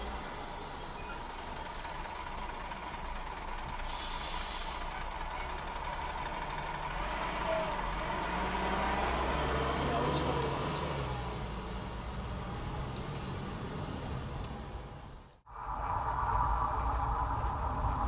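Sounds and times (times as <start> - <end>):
vehicle running rumble: 0.0 - 18.0.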